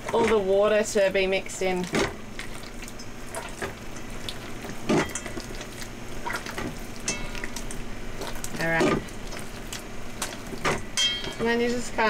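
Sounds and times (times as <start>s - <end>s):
hands squelching wet dough: 0.0s - 11.8s.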